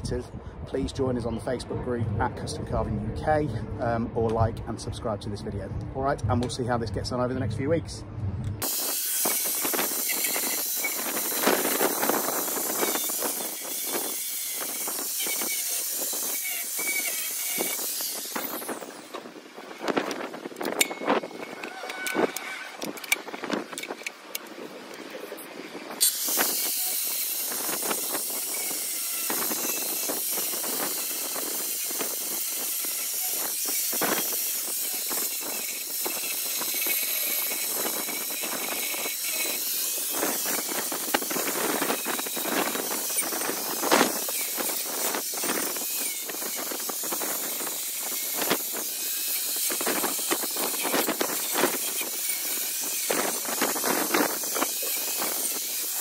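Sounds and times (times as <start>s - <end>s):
angle grinder cutting wood: 8.6s - 56.0s.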